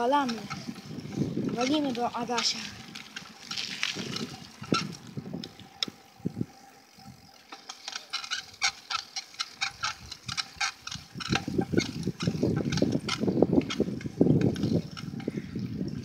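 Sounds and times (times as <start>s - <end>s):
tyres rumbling on pavement: 0.0s - 15.9s
bicycle clicking and rattling: 0.0s - 16.0s.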